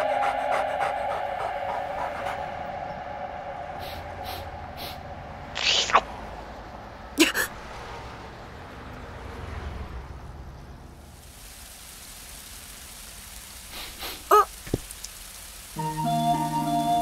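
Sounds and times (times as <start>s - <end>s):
steady rain-like hiss: 0.0s - 17.0s.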